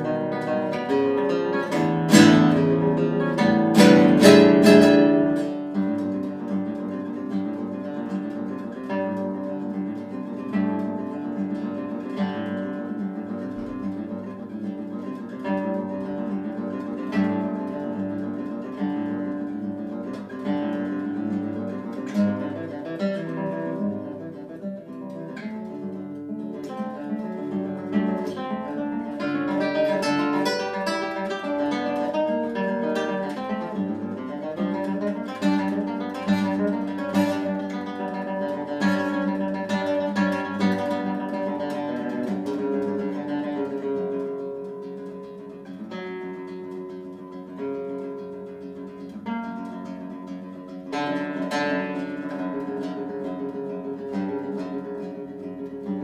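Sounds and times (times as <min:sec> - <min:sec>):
classical guitar playing: 0:00.0 - 0:56.0
strummed guitar accents: 0:00.0 - 0:56.0.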